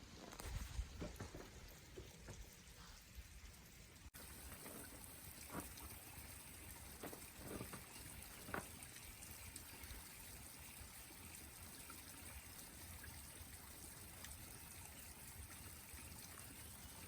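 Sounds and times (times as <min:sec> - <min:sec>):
faint running stream water: 0:00.0 - 0:17.0.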